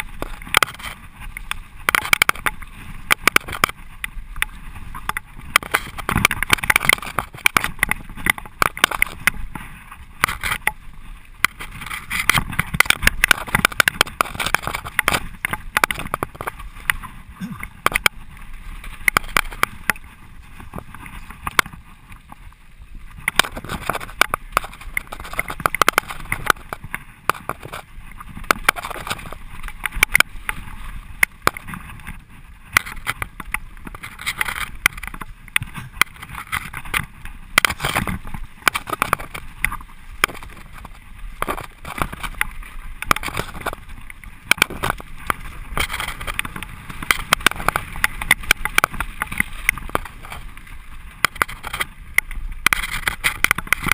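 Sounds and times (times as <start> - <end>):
bike rattling over bumps: 0.0 - 53.9
bike tyres rushing on dirt: 0.0 - 53.9.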